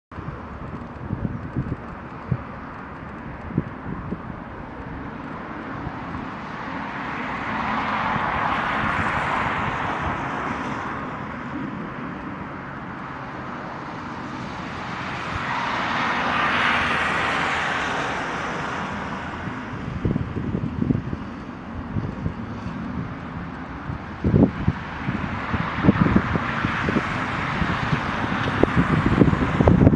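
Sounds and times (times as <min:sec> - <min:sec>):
wind buffeting microphone: 0:00.1 - 0:29.9
jet engines rushing: 0:00.2 - 0:29.9.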